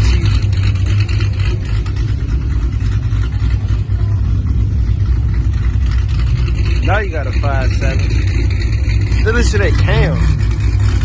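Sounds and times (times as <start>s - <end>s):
car engine rumbling at low revs: 0.0s - 11.0s.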